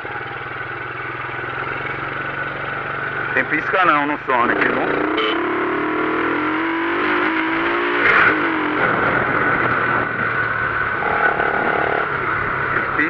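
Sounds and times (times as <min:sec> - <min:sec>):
high steady whine: 0:00.0 - 0:13.0
motorcycle engine running: 0:00.0 - 0:13.0.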